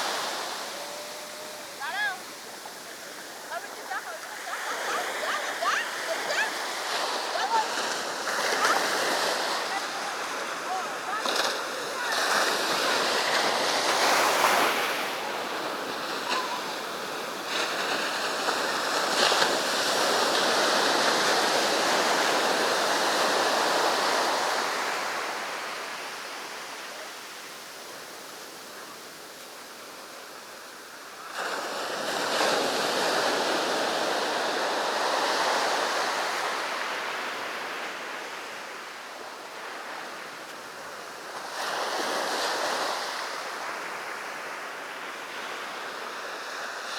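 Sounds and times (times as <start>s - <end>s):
waves breaking on beach: 0.0s - 46.9s.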